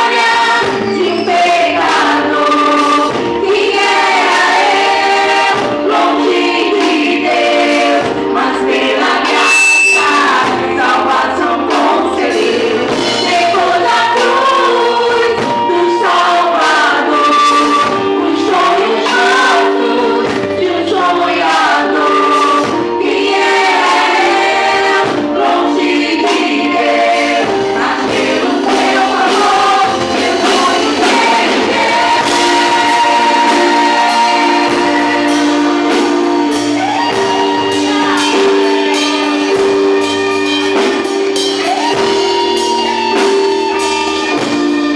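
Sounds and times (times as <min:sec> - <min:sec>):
musical accompaniment: 0:00.0 - 0:44.9
vocal group singing gospel: 0:00.0 - 0:44.9.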